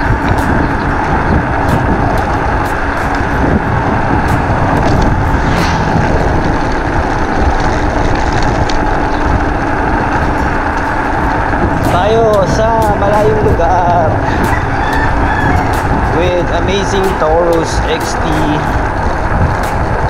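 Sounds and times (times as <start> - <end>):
scooter road noise: 0.0 - 20.0
wind buffeting microphone: 0.0 - 20.0.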